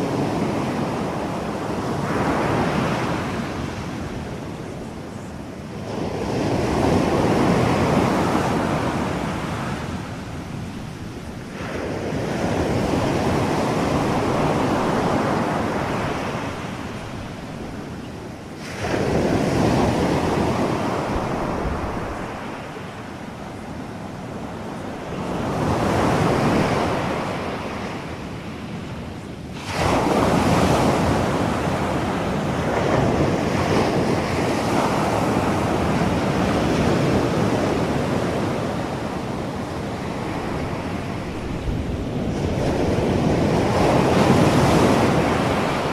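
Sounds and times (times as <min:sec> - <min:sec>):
ocean surf rushing: 0:00.0 - 0:45.9.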